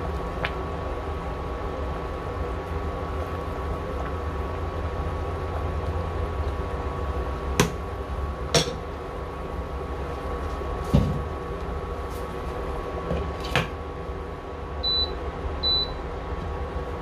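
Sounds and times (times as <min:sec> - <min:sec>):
induction cooktop hum: 0:00.0 - 0:17.0.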